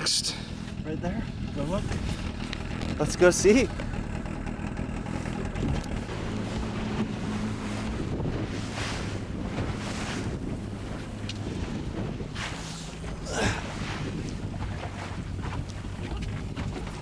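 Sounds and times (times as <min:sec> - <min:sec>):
outboard motor running: 0:00.0 - 0:17.0
rushing water: 0:00.0 - 0:17.0
wind buffeting microphone: 0:00.6 - 0:17.0.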